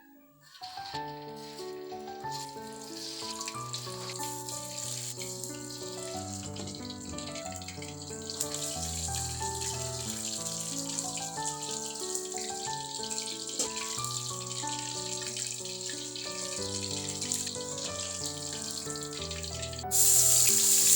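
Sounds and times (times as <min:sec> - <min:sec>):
water running from tap: 0:00.6 - 0:20.9.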